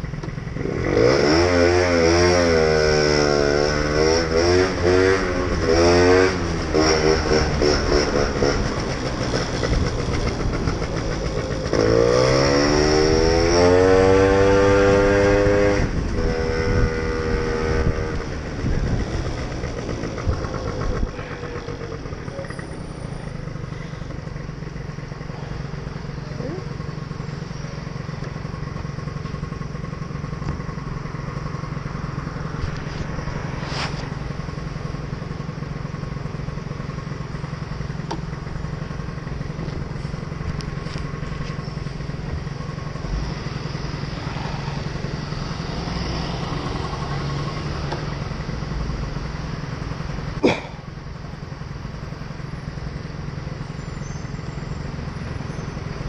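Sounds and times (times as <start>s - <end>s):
scooter engine idling: 0.0s - 1.2s, 2.4s - 56.0s.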